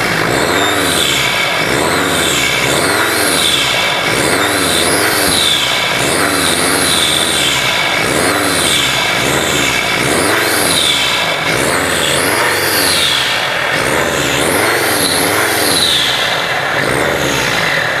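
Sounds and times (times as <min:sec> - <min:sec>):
engine revving: 0:00.0 - 0:18.0
turbocharger whistling: 0:00.0 - 0:18.0.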